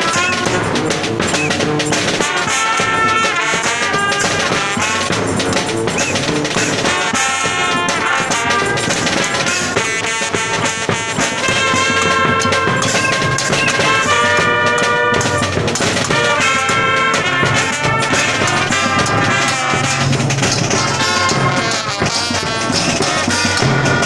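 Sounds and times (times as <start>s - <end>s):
brass band playing: 0.0s - 24.0s
snare and bass drum beats: 0.0s - 24.0s.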